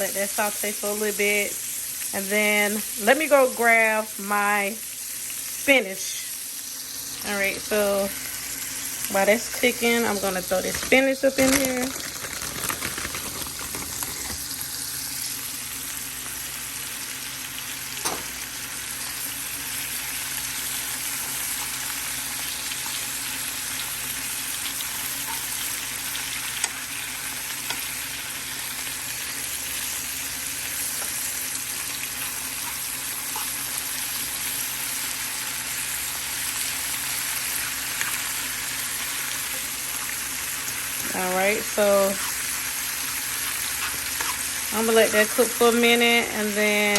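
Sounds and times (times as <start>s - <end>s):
vegetables sizzling in a frying pan: 0.0s - 46.9s.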